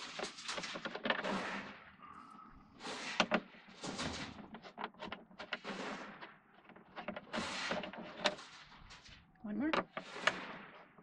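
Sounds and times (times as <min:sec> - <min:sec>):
short scraping and clicks: 0:00.0 - 0:02.0, 0:02.8 - 0:09.2, 0:09.8 - 0:11.0.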